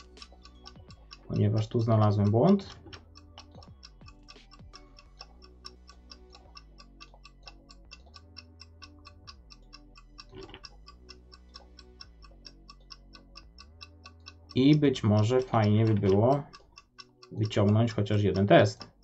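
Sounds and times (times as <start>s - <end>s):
faint steady ticking: 0.0s - 19.0s.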